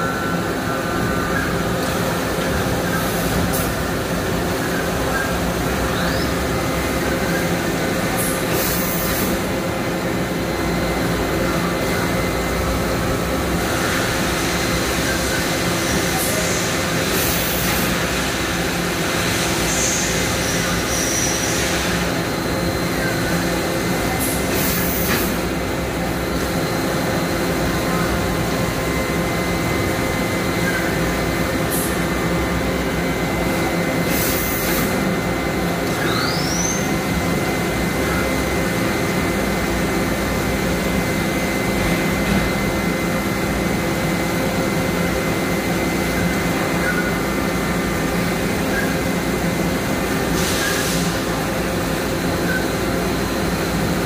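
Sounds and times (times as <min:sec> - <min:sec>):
machine hum with tones: 0:00.0 - 0:54.0.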